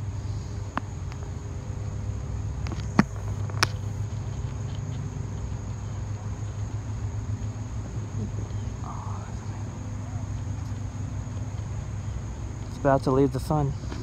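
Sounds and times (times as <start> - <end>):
insects chirring: 0.0 - 14.0
low steady rumble: 0.0 - 14.0.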